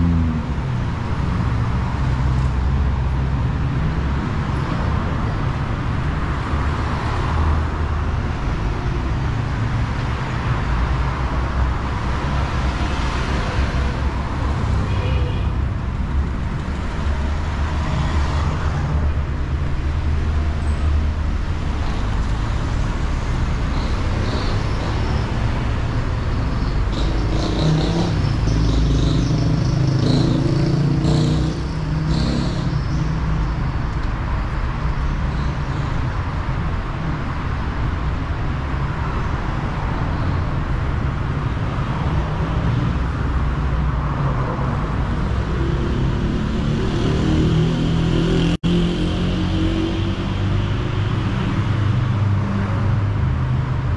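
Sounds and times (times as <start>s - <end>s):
cars passing rumble: 0.0s - 53.9s.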